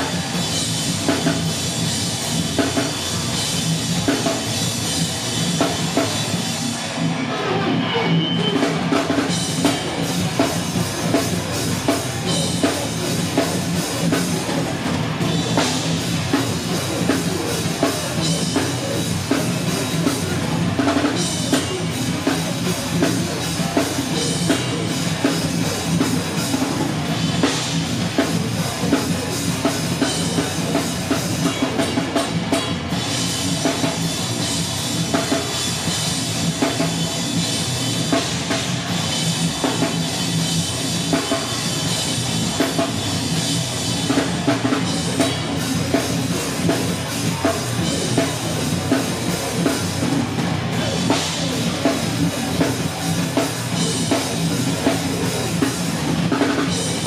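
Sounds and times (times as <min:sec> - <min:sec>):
heavy bass drum: 0:00.0 - 0:07.2, 0:08.5 - 0:57.0
distorted guitars: 0:00.0 - 0:57.0
rock band playing live: 0:00.0 - 0:57.0.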